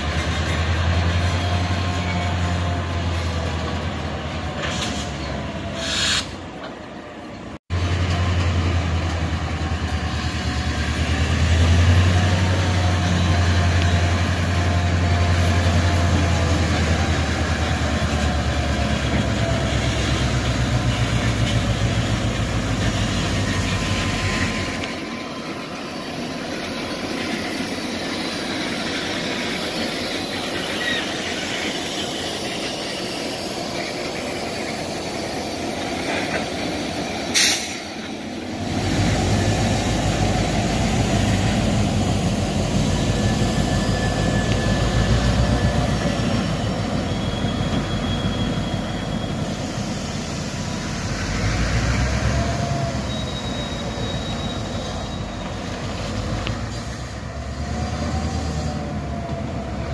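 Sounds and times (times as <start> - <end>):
diesel locomotive engine drone: 0.0 - 59.9
wheels rumbling on rails: 0.0 - 59.9.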